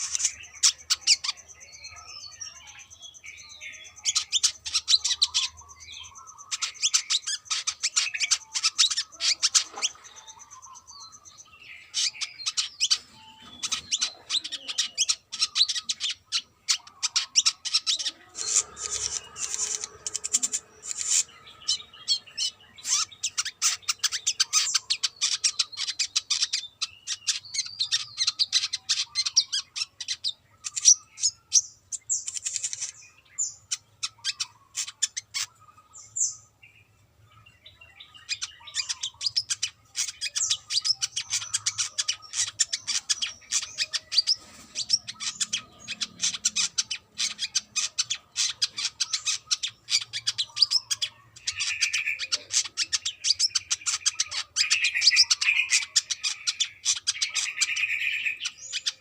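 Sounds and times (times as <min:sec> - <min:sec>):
bird chirping and twittering: 0:00.0 - 0:59.0.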